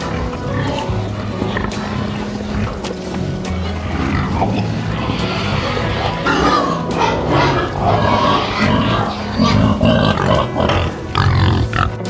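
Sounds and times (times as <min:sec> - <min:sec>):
pig grunting: 0:00.0 - 0:12.0.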